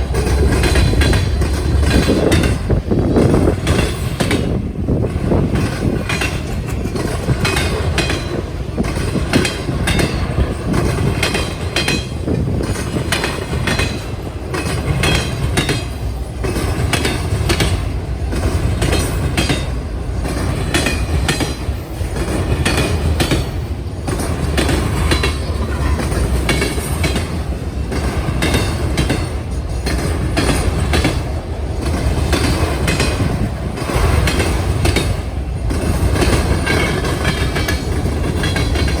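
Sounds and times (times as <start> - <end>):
train cars rumbling: 0.0 - 39.0.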